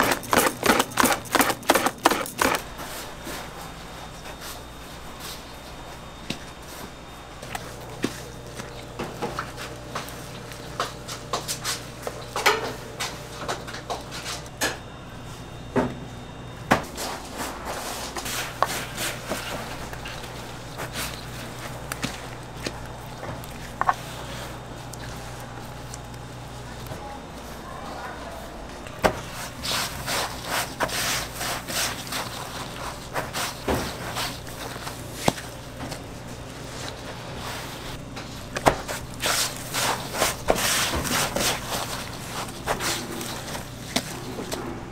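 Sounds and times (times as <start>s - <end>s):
breadcrumbs rustling and crunching: 0.0s - 14.5s, 16.9s - 26.8s, 28.3s - 44.6s
low steady hum: 0.0s - 44.9s.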